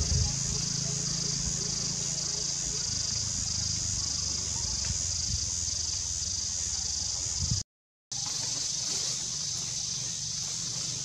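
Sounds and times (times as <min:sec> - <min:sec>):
high-pitched insect chorus: 0:00.0 - 0:07.6, 0:08.2 - 0:11.0.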